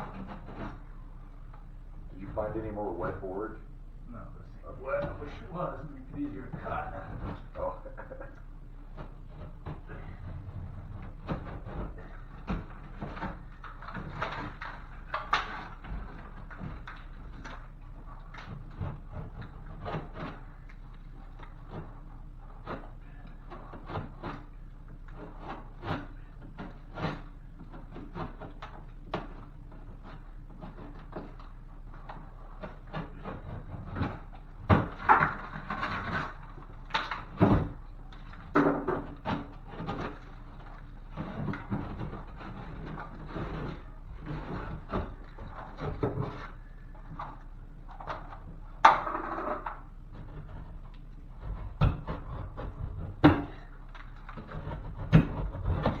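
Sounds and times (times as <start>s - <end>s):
drywall scraping: 0.0s - 56.0s.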